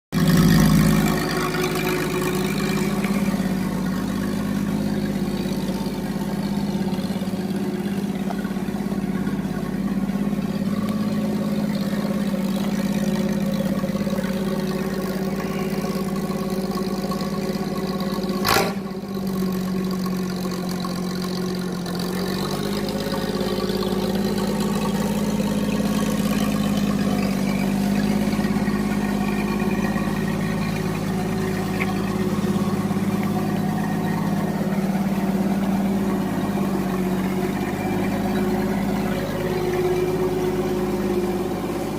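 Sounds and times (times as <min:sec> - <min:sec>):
truck engine idling: 0:00.1 - 0:41.9.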